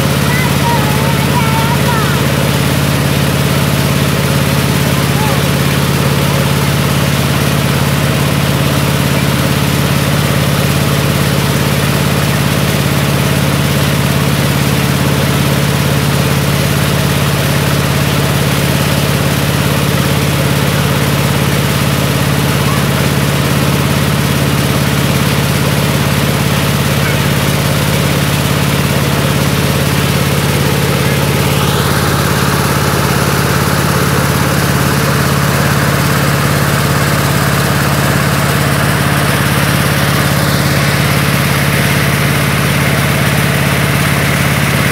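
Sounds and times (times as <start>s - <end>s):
engine drone with hum: 0.0s - 44.9s.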